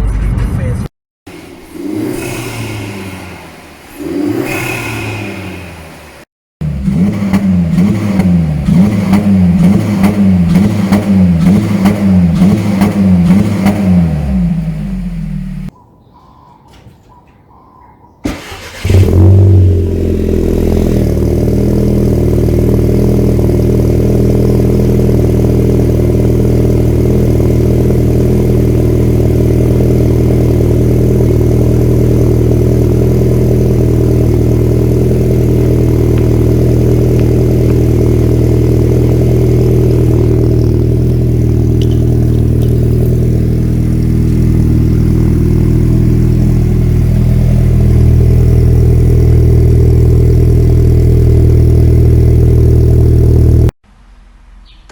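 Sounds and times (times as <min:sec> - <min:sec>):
car engine starting and idling: 0:00.0 - 0:15.8, 0:17.0 - 0:53.8.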